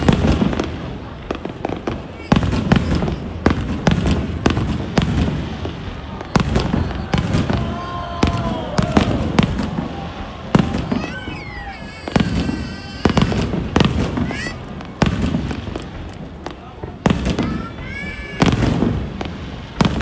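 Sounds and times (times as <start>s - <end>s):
firework shells bursting: 1.8s - 20.0s.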